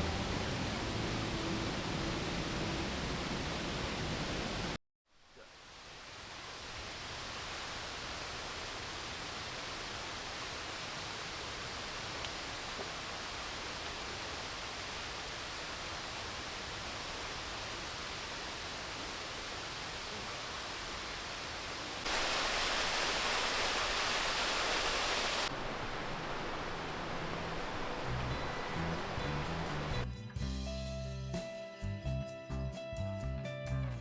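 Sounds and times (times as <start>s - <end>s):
waterfall rushing: 0.0s - 4.8s, 5.8s - 30.0s.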